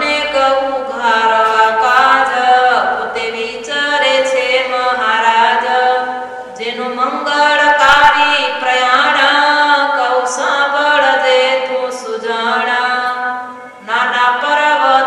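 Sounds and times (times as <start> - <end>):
devotional chant-like singing: 0.0 - 15.0.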